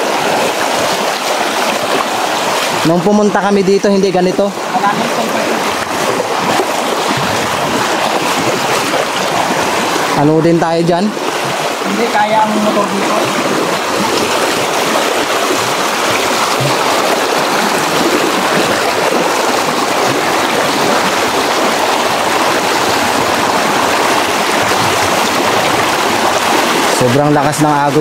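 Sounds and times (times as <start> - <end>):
river current rushing: 0.0 - 28.0.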